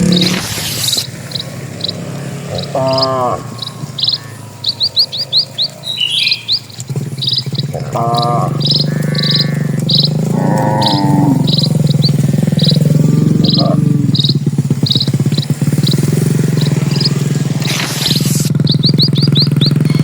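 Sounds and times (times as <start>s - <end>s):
bird chirping: 0.0s - 20.0s
brief pitched calls: 0.0s - 20.0s
steady low hum: 0.0s - 20.0s.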